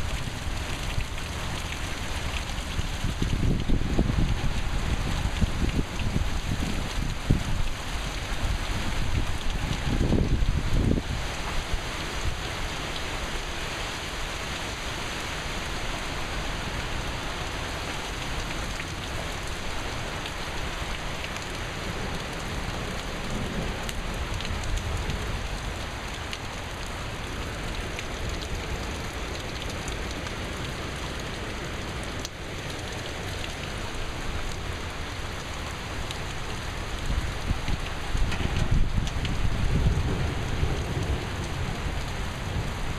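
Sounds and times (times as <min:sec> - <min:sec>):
rain falling steadily: 0:00.0 - 0:42.9.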